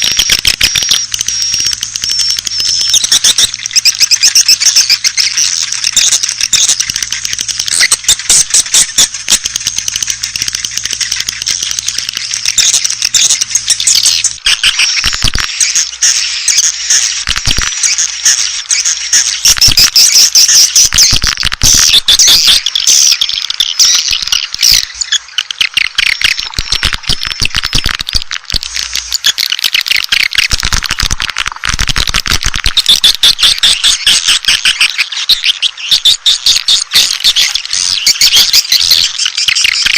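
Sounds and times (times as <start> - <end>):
swiftlets twittering: 0.0 - 39.9.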